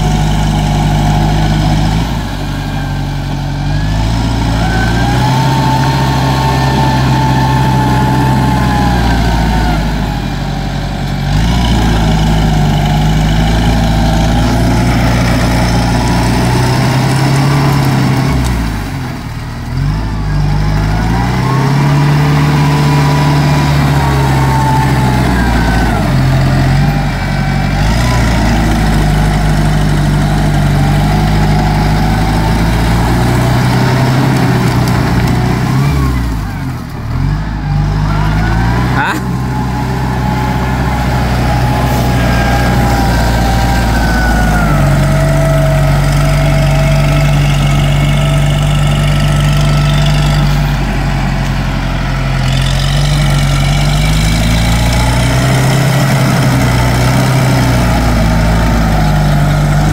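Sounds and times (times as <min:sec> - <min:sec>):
tractor diesel engine running hard: 0:00.0 - 0:59.9.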